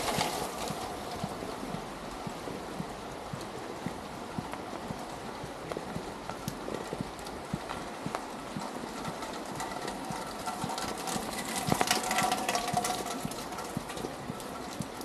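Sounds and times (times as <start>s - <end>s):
footsteps on wet cobblestones: 0.0s - 15.0s.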